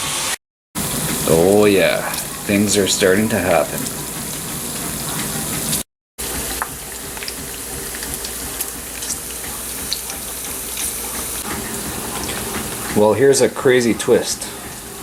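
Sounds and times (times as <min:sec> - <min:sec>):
bacon sizzling in a frying pan: 0:00.8 - 0:15.0.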